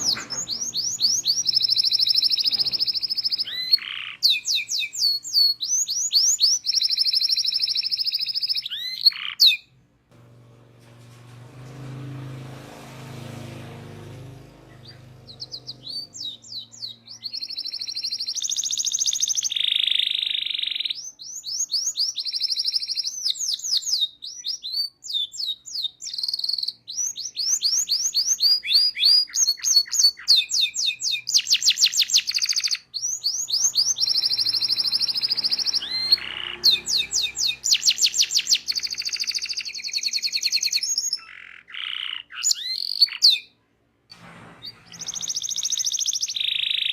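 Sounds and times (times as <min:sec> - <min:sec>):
canary singing trills: 0:00.0 - 0:09.8, 0:14.2 - 0:43.6, 0:44.6 - 0:46.9.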